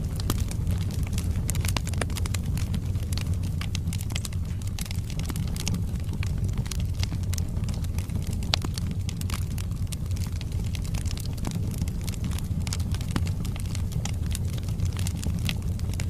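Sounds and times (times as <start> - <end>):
low rumble: 0.0 - 16.0
wood fire crackling and popping: 0.0 - 16.0.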